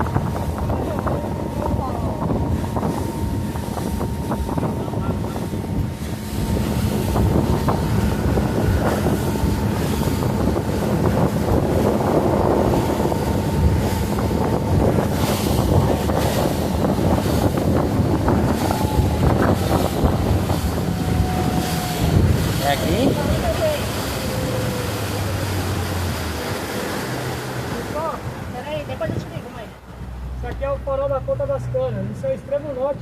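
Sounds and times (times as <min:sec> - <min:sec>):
wind noise on microphone: 0:00.0 - 0:26.8
motorboat engine running: 0:00.0 - 0:33.0
water rushing past hull: 0:00.0 - 0:33.0.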